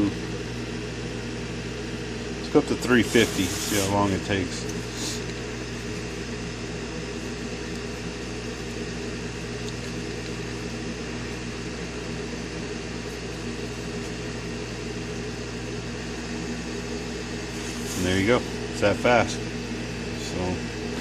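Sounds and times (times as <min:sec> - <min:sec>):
small electric fan whirring: 0:00.0 - 0:21.0.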